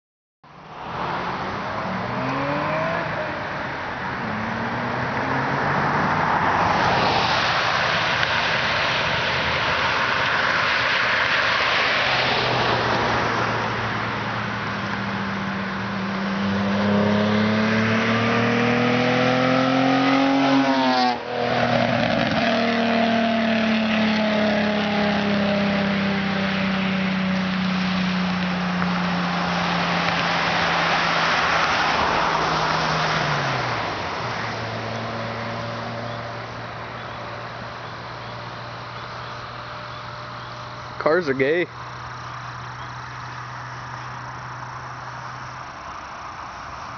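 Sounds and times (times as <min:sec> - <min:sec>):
car rushing past: 0:00.7 - 0:46.9
car engine revving: 0:01.3 - 0:46.5.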